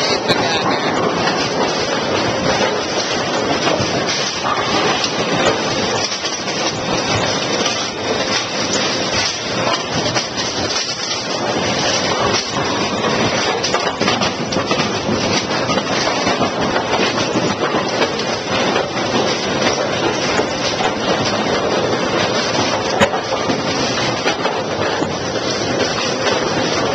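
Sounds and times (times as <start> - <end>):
machinery clatter: 0.0 - 26.9.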